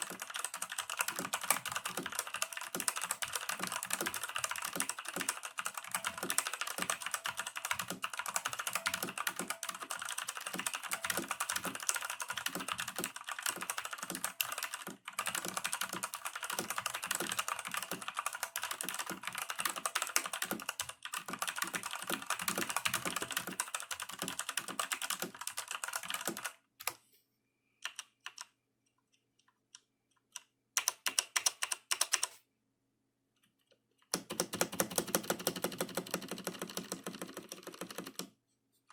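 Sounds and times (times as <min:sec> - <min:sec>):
mechanical keyboard typing: 0:00.0 - 0:27.0, 0:27.8 - 0:28.6, 0:30.3 - 0:32.4, 0:34.1 - 0:38.3.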